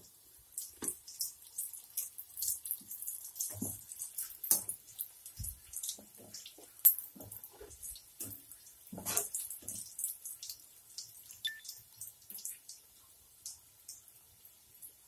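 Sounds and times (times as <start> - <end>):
hot oil crackling and popping: 0.0 - 15.0.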